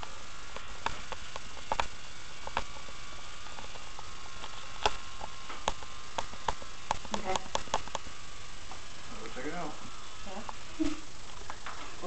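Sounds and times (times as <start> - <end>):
hair clippers buzzing: 0.0 - 12.0.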